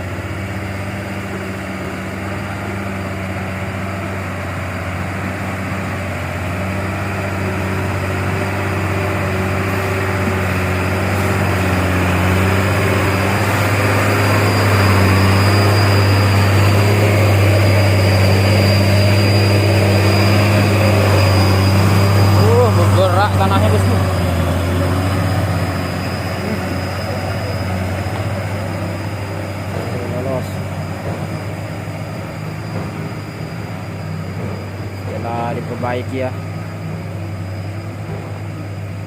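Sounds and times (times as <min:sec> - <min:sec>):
truck diesel engine under load: 0:00.0 - 0:39.0.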